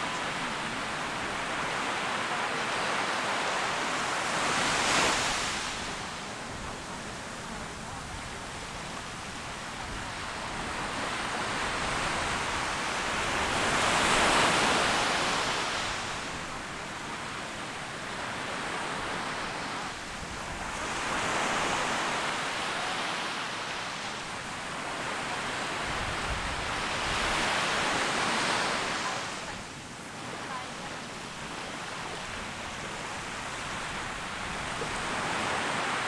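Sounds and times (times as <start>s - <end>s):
ocean waves breaking on beach: 0.0s - 36.0s.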